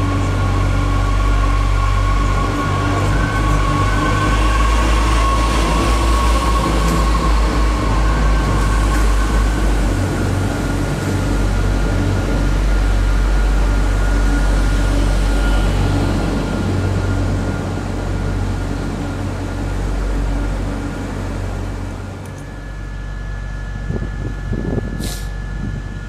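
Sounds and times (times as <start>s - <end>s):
train running: 0.0s - 26.0s.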